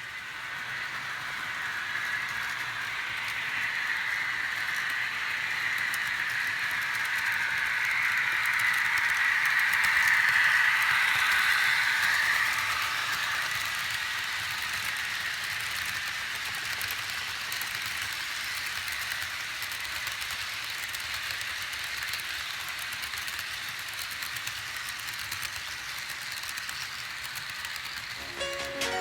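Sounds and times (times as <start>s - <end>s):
model train wheels rattling: 0.0s - 28.2s.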